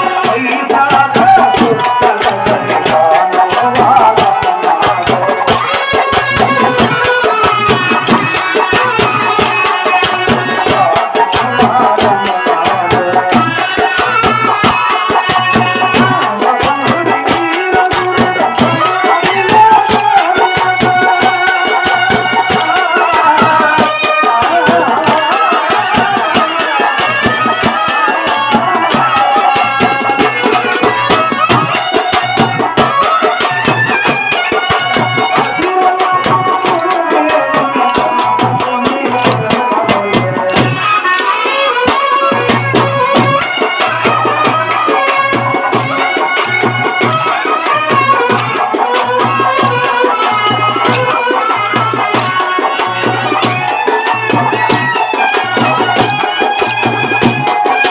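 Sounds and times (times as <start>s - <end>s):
folk music with drum beat: 0.0s - 57.9s.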